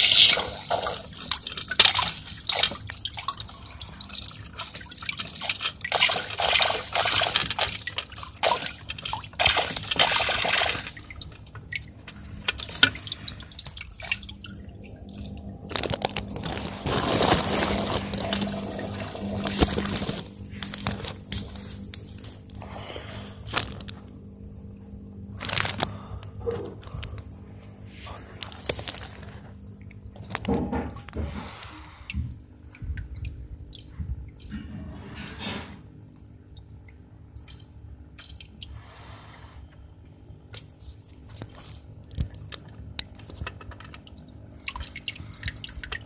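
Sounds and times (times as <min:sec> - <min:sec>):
aquarium water splashing: 0:00.0 - 0:46.0.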